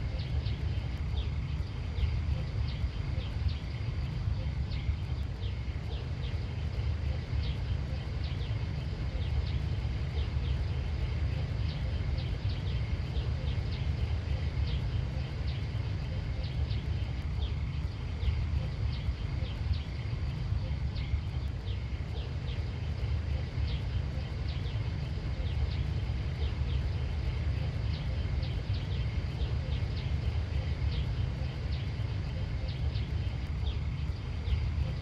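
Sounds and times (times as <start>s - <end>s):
small birds chirping: 0.0s - 35.0s
steady low rumble: 0.0s - 35.0s.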